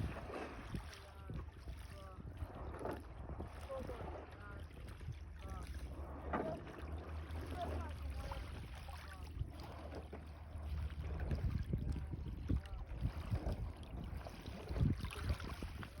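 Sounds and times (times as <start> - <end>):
water splashing and lapping: 0.0 - 16.0
wind rumble on microphone: 0.0 - 16.0.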